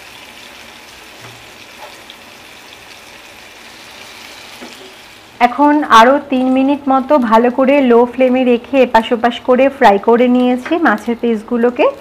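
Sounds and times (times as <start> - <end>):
oil sizzling around frying fish: 0.0 - 12.0.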